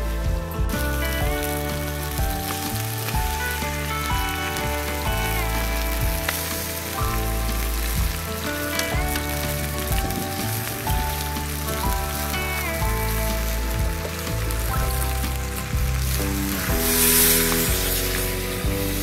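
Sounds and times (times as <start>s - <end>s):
background music: 0.0s - 19.0s
food sizzling in a wok: 0.0s - 19.0s.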